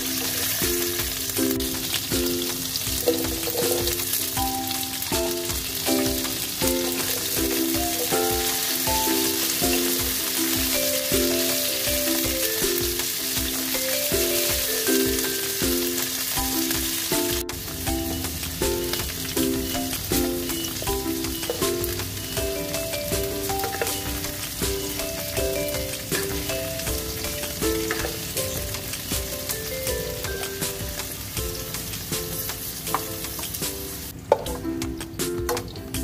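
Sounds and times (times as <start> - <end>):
background music: 0.0 - 36.0
food sizzling in a pan: 0.0 - 36.0.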